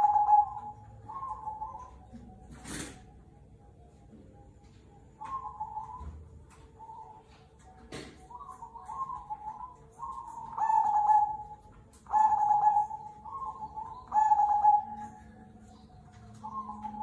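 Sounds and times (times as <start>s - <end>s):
dove cooing: 0.0s - 3.1s, 5.2s - 17.0s.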